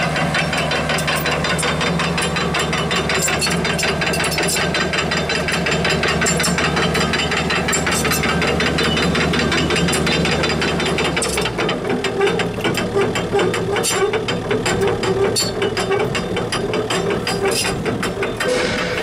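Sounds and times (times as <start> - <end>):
diesel engine humming: 0.0 - 19.0
steel crawler tracks clattering: 0.0 - 19.0.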